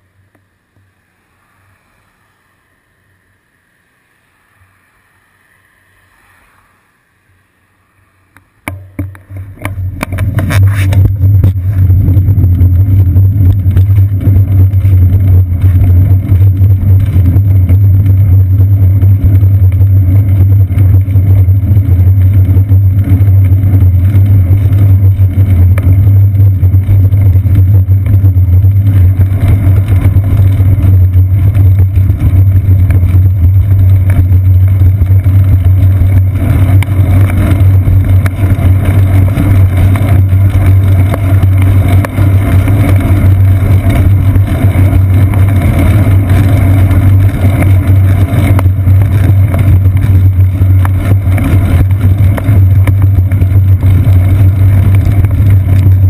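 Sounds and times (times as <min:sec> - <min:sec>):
bicycle rolling rumble: 0:00.0 - 0:56.0
wind noise: 0:00.8 - 0:56.0.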